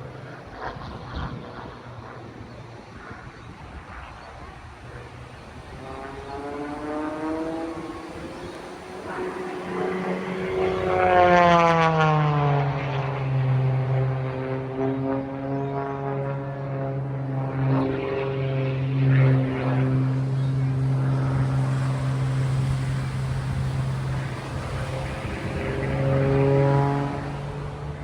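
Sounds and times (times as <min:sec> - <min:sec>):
propeller airplane flying past: 0:00.0 - 0:28.0.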